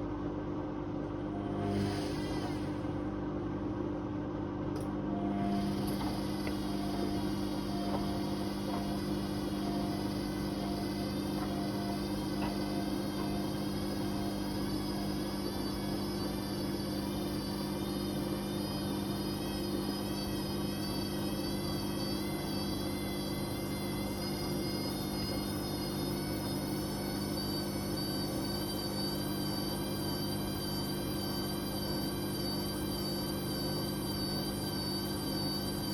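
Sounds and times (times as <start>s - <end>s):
washing machine motor hum: 0.0s - 35.9s
high wavering whine: 1.0s - 3.2s, 5.1s - 35.9s.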